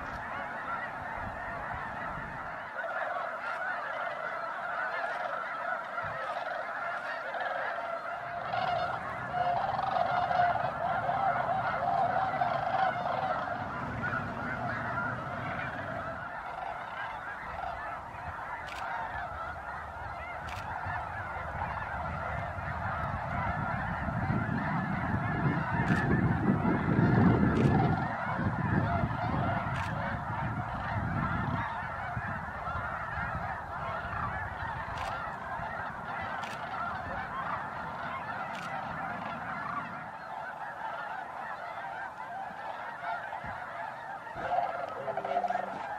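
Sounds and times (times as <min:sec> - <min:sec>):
snow geese honking: 0:00.0 - 0:45.9.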